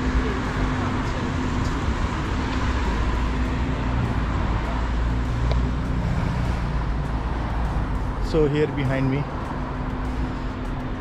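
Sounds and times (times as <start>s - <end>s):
vehicle passing close by: 0.0s - 10.6s
tyres on a wet road: 0.0s - 11.0s
vehicle engines humming: 0.0s - 11.0s.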